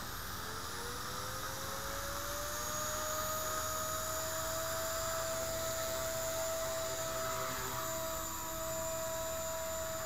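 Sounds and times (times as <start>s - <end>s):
rc helicopter motor whine: 0.0s - 10.0s.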